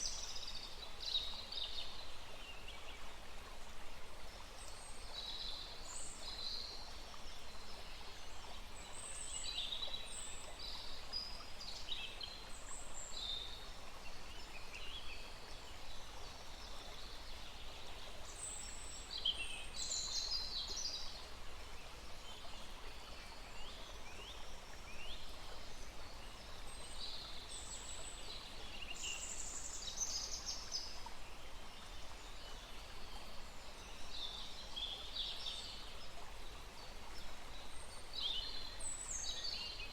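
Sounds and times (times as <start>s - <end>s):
small stream rushing: 0.0s - 39.9s.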